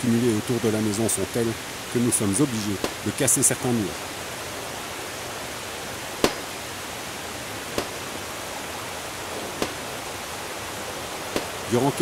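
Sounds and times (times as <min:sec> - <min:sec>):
floodwater gushing: 0:00.0 - 0:12.0.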